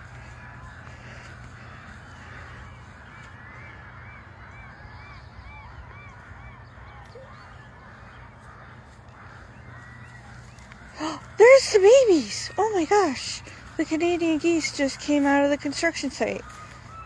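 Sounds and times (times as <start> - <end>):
geese honking: 0.0 - 17.0
steady low hum: 0.0 - 17.0.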